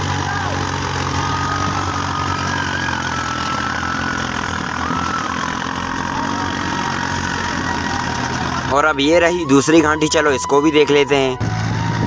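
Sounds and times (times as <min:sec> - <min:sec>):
diesel tractor engine under load: 0:00.0 - 0:12.0
high wavering whine: 0:00.0 - 0:12.0.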